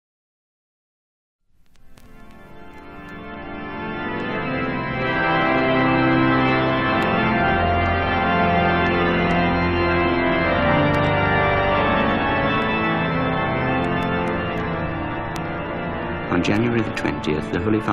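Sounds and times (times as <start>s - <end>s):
organ playing sustained chords: 1.8s - 17.9s
deep bass organ note: 2.6s - 17.9s.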